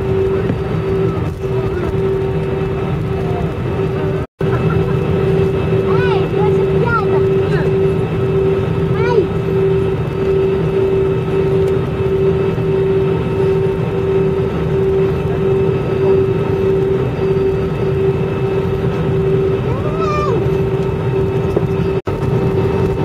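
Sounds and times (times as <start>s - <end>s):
airliner cabin engine drone: 0.0s - 23.0s.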